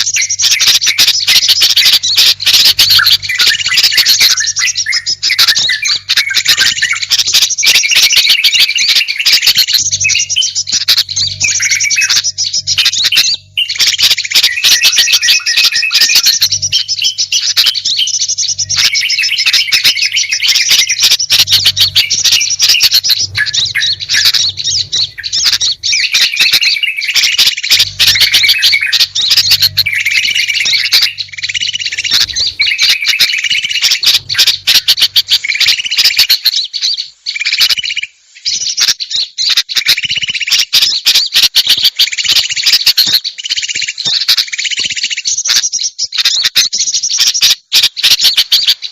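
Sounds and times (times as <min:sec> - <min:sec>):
songbirds chirping and twittering: 0:00.0 - 0:48.9.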